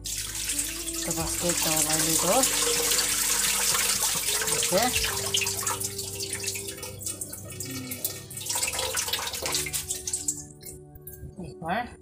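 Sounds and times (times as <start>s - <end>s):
water splashing: 0.0s - 10.8s.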